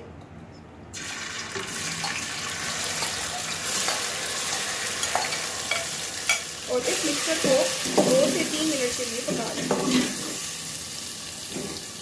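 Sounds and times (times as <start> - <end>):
oil sizzling in a pot: 1.0 - 12.0.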